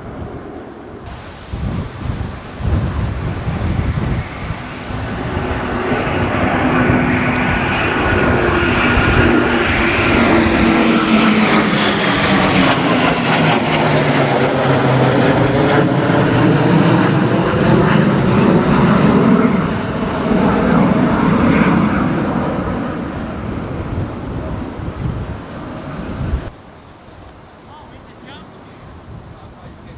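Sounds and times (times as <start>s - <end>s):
low-flying aircraft passing overhead: 0.0s - 26.6s.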